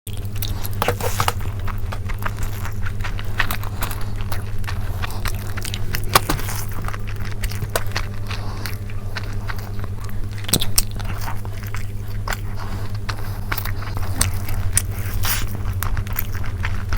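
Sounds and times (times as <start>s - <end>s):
person chewing food: 0.1s - 16.9s
steady low hum: 0.1s - 16.9s.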